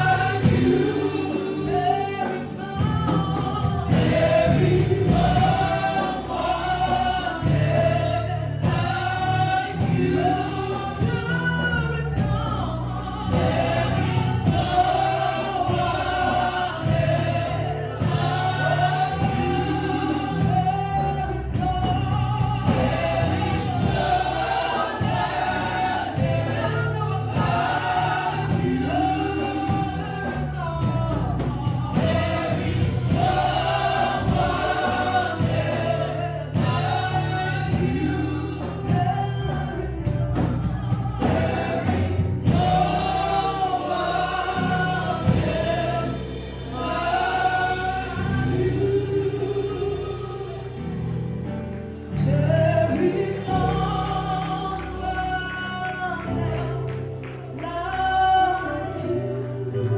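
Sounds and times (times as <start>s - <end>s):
choir singing: 0.0s - 51.1s, 52.6s - 59.9s
bass and keyboard accompaniment: 0.0s - 59.9s.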